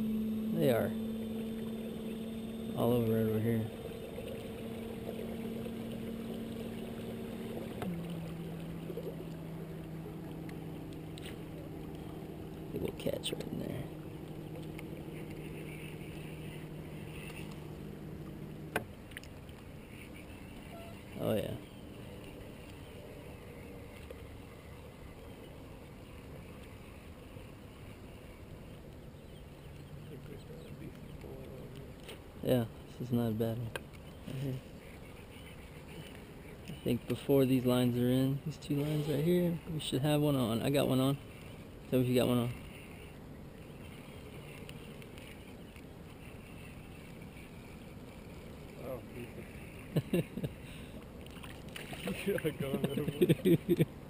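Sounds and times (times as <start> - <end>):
boat motor humming: 0.0 - 54.0
wind and water rumble: 0.0 - 54.0.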